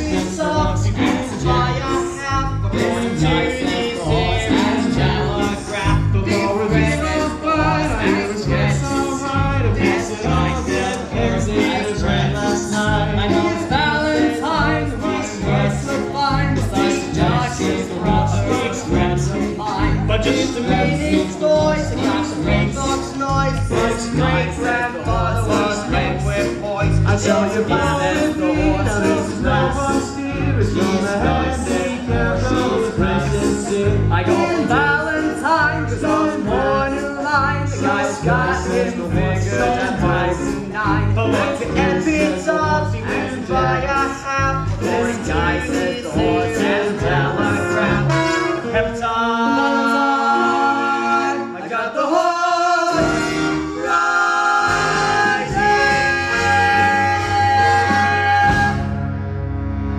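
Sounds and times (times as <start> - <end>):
musical accompaniment with bass beat: 0.0 - 49.4, 52.9 - 59.9
voices singing: 0.0 - 59.1.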